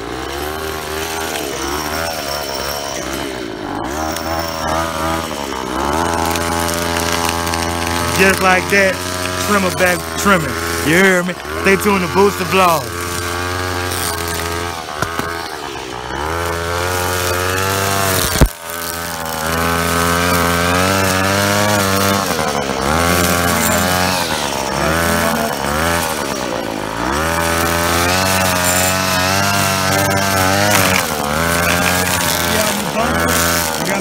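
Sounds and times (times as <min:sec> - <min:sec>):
string trimmer engine revving: 0:00.0 - 0:34.0.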